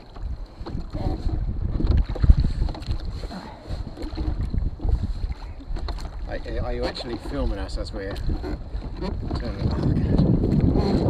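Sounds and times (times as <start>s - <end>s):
water noise of rowed dinghy: 0.0s - 11.0s
wind buffeting microphone: 0.0s - 11.0s.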